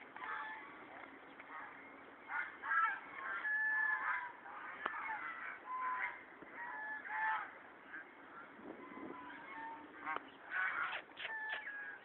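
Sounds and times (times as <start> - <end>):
waterfowl honking: 0.0 - 12.0.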